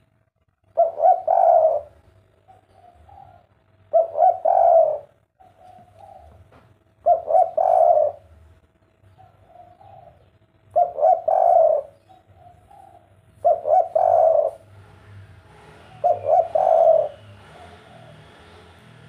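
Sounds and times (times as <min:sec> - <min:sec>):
dove cooing: 0:00.7 - 0:08.4, 0:09.1 - 0:14.8, 0:15.7 - 0:18.8.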